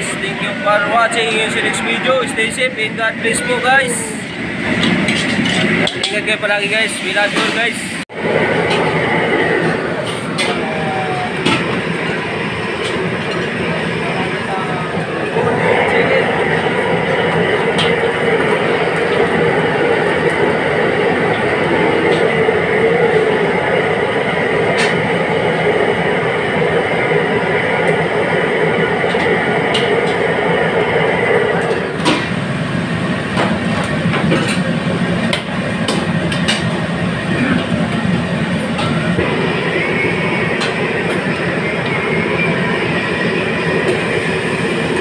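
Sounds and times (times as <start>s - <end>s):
gas burner rushing: 0.0s - 45.0s.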